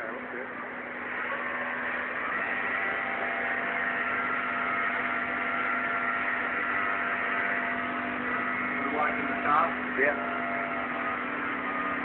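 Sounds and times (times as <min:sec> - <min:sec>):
mechanical hum with held tones: 0:00.0 - 0:12.0.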